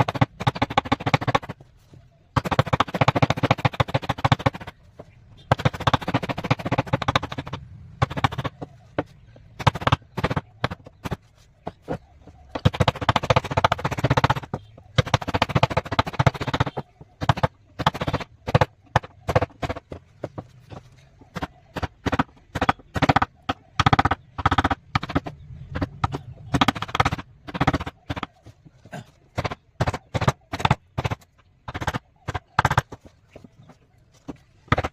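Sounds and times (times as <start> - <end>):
carving tools knocking wood: 0.0 - 1.7, 2.3 - 34.9.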